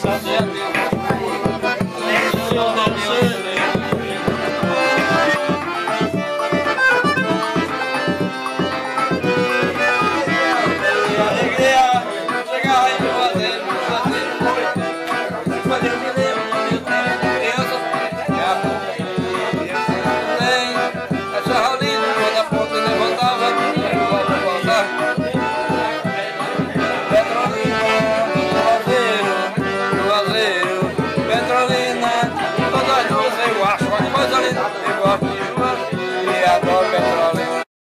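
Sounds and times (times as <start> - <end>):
steady drum beat: 0.0 - 37.6
accordion music: 0.0 - 37.7.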